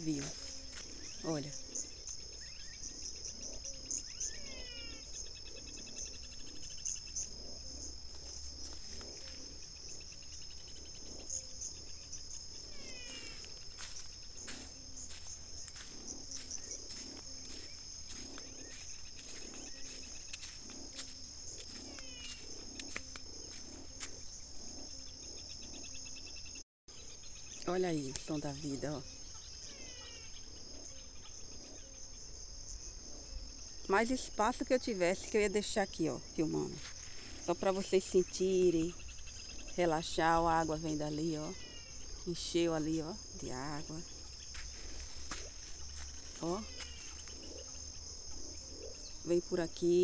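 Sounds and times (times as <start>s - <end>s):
high-pitched insect trill: 0.0s - 50.0s
low frog calls: 0.0s - 50.0s.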